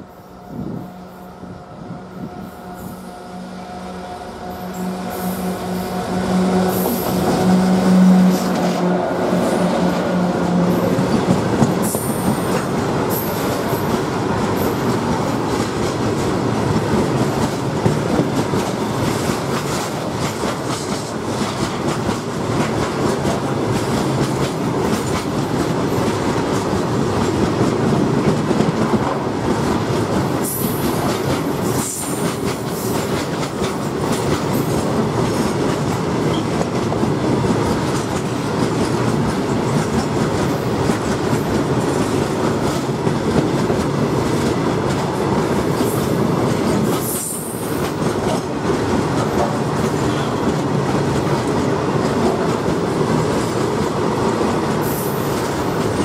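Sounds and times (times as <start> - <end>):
electric locomotive hum: 0.0 - 56.0
train wheels clattering on rails: 5.6 - 56.0.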